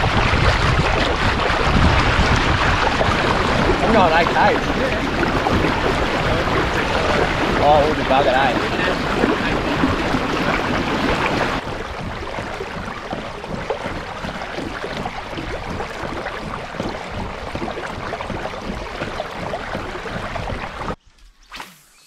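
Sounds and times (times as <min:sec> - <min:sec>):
water rushing around boat: 0:00.0 - 0:21.0
water splashes: 0:00.0 - 0:21.0.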